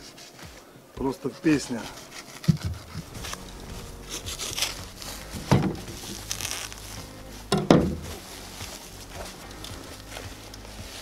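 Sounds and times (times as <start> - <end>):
plastic film crinkling and tearing: 1.3 - 11.0.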